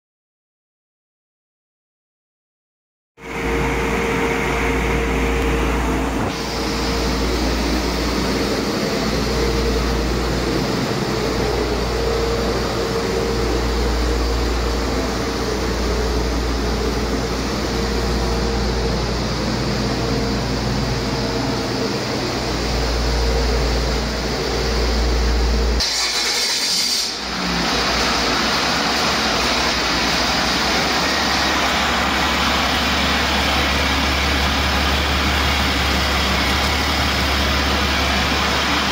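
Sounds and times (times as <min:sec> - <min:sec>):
diesel engine running: 0:03.2 - 0:38.9
rushing noise: 0:03.2 - 0:38.9.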